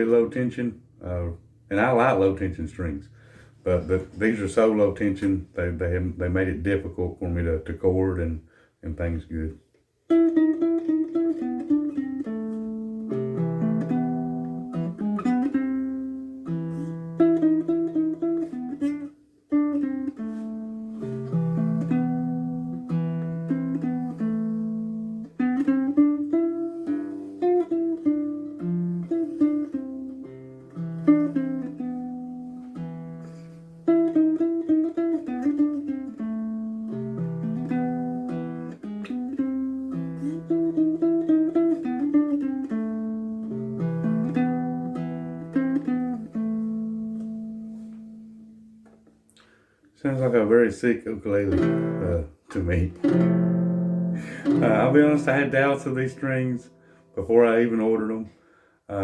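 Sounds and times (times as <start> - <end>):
baritone ukulele picking chords: 0.0 - 59.0.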